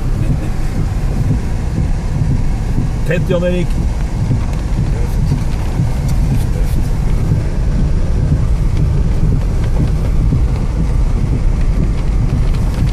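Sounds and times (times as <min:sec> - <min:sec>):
tyres rumbling on gravel: 0:00.0 - 0:12.9.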